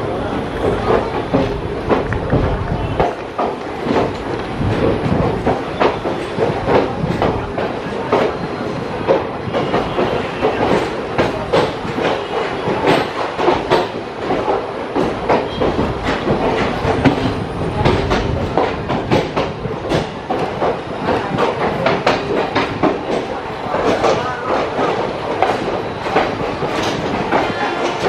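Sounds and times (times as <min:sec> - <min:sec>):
steady train rumble: 0:00.0 - 0:28.0
train wheels clacking over rail joints: 0:00.0 - 0:28.0.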